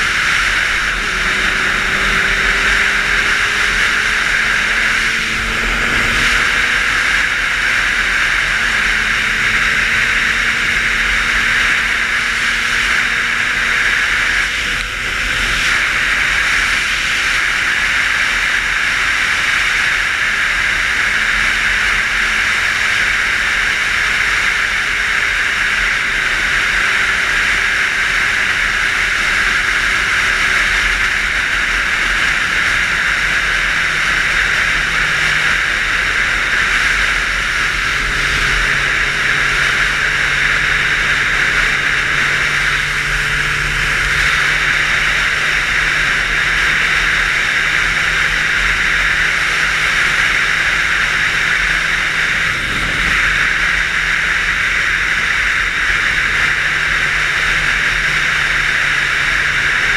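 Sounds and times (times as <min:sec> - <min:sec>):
faint motorcycle engine hum: 0:00.0 - 0:59.9
wind rushing over camera: 0:00.0 - 0:59.9.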